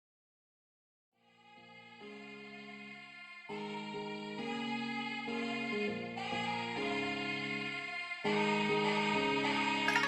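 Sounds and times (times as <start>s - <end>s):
background music with soft chords: 1.2s - 10.0s.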